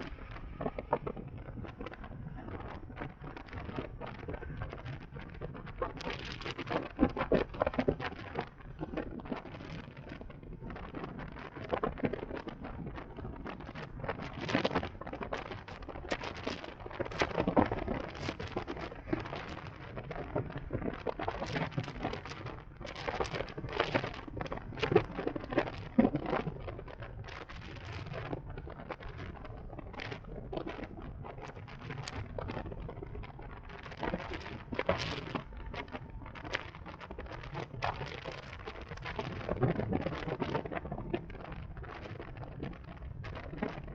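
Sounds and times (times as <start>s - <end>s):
sharp crackles: 0.0s - 43.9s.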